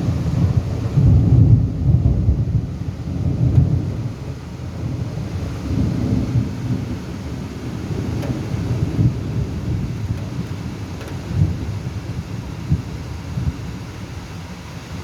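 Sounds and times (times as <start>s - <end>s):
thunder rumbling: 0.0s - 13.9s
steady rain: 0.0s - 15.0s.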